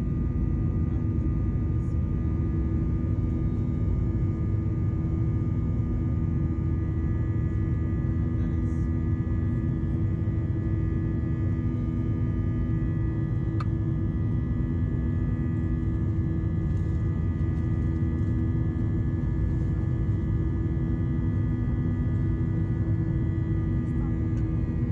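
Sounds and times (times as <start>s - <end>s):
airliner jet engines rumbling: 0.0s - 24.9s.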